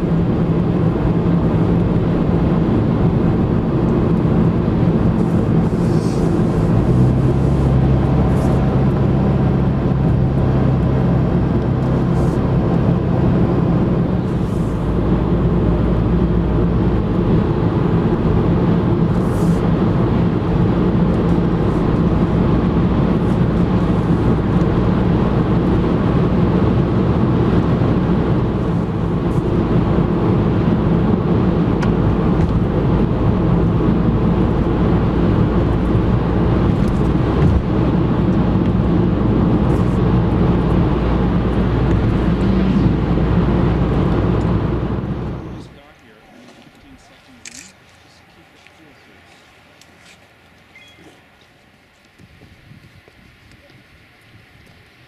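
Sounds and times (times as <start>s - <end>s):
car engine hum: 0.0s - 55.0s
tyre and road noise: 0.0s - 55.0s.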